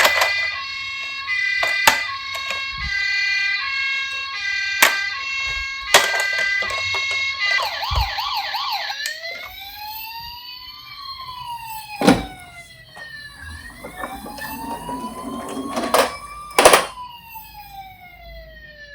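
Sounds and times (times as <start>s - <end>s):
toy sirens wailing: 0.0s - 18.9s.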